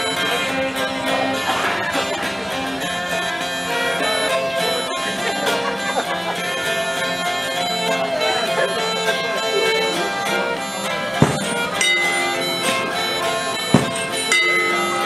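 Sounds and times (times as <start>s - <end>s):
bagpipes with drone: 0.0s - 15.0s
fiddle: 0.0s - 15.0s
plucked string instrument: 0.0s - 15.0s.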